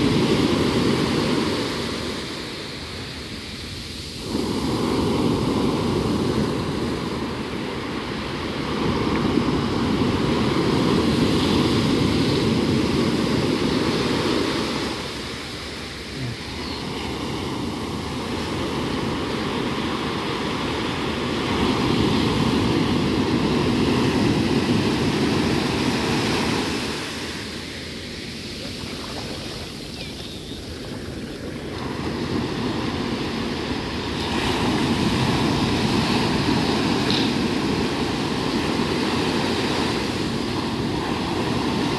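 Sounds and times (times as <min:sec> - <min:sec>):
ocean surf breaking: 0:00.0 - 0:41.9.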